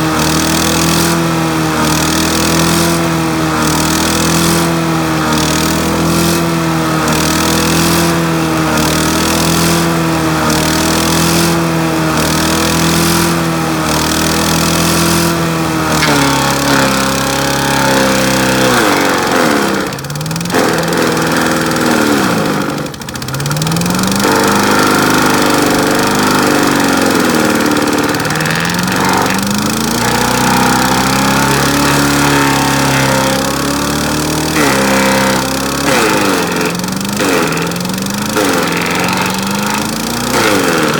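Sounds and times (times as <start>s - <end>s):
wood chipper engine running: 0.0s - 40.9s.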